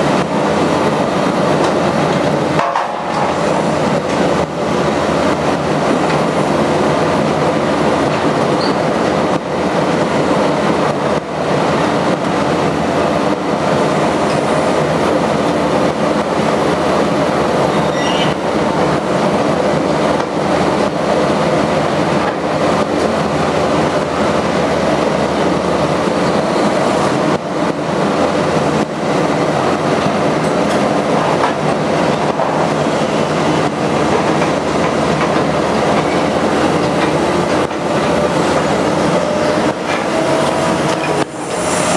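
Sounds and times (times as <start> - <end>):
excavator engine and hydraulics: 0.0 - 41.9.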